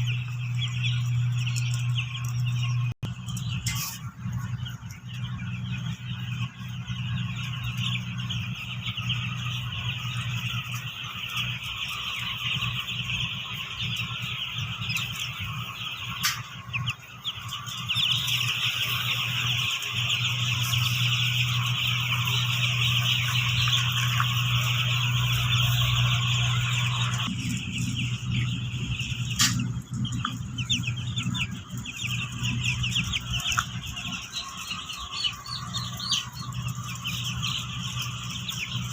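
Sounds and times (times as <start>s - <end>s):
chicks peeping: 0.0s - 38.9s
low hum: 0.0s - 38.9s.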